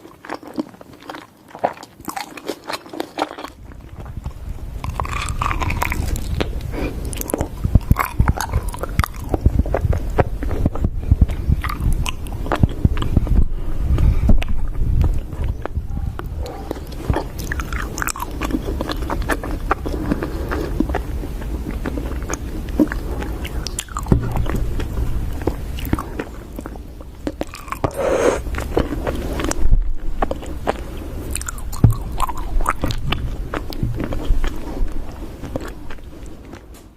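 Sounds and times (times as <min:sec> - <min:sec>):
crunchy food chewing: 0:00.0 - 0:36.9.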